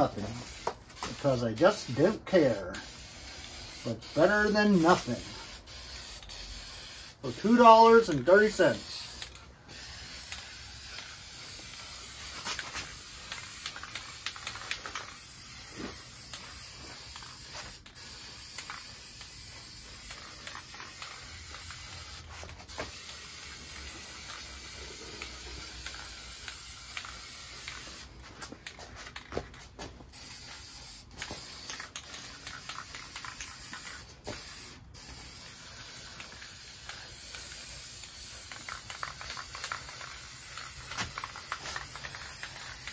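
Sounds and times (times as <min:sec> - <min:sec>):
spray paint can hissing: 0:00.0 - 0:42.9.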